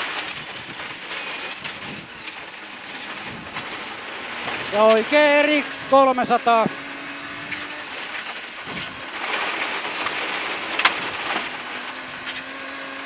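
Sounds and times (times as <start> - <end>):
car engine: 0.0 - 13.0.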